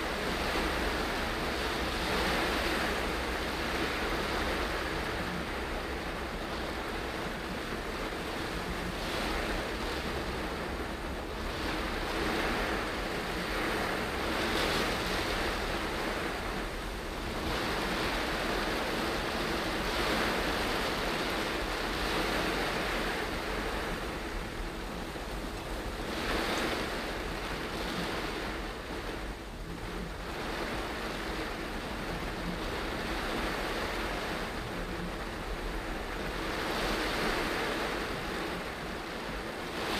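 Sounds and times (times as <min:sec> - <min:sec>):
car tyres on wet road: 0:00.0 - 0:39.9
rain hiss: 0:00.0 - 0:39.9.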